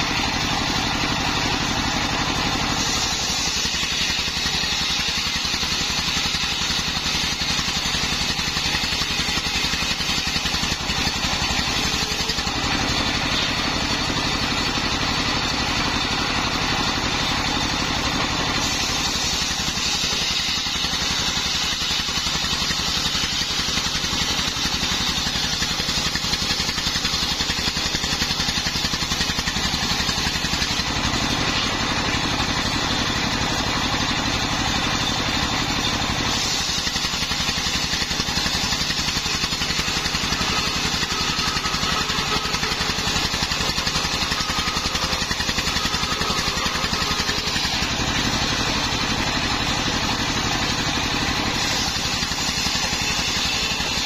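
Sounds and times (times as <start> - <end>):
circular saw cutting wood: 0.0 - 54.0
diesel engine running: 0.0 - 54.0.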